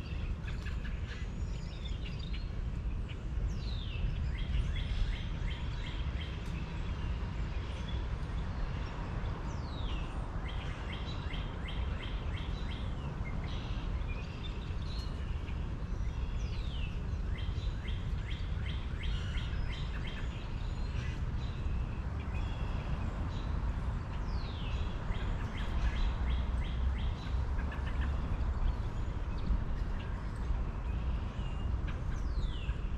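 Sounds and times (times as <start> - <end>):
birds calling and chirping: 0.0 - 32.9.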